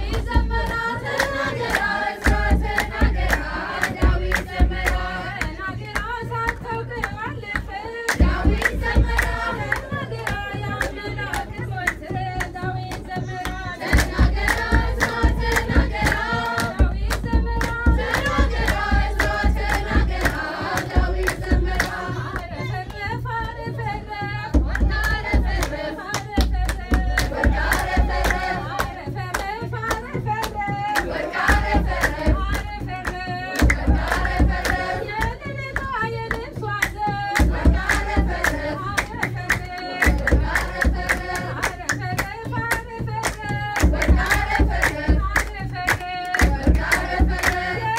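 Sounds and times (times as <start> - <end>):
hand clapping: 0.0 - 47.9
women singing a hymn: 0.0 - 47.9.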